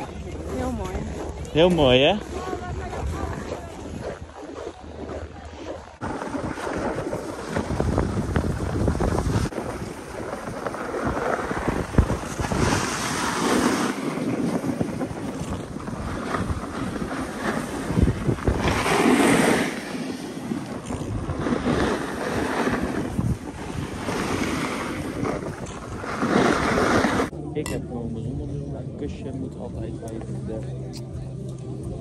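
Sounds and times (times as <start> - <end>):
wind buffeting microphone: 0.0 - 27.3.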